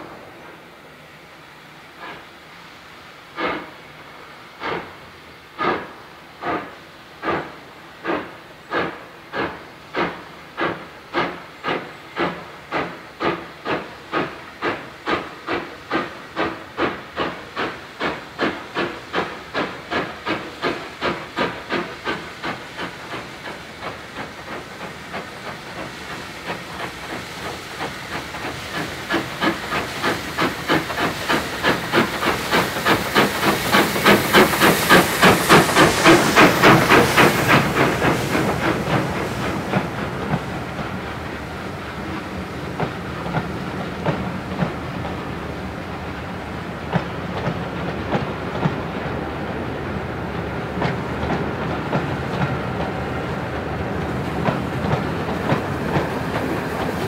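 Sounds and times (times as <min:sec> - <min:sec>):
steam hissing: 0:00.0 - 0:57.0
steam locomotive chuffing: 0:00.0 - 0:57.0.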